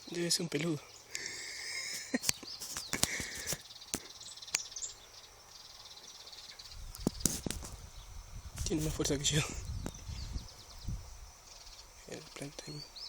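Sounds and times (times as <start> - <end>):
birds calling: 0.0 - 13.0
high insect chirr: 0.0 - 13.0.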